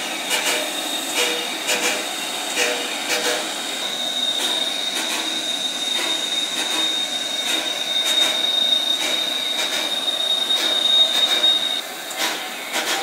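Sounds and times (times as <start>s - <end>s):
steam locomotive rolling: 0.0s - 13.0s
high-pitched wheel squeal: 0.3s - 13.0s.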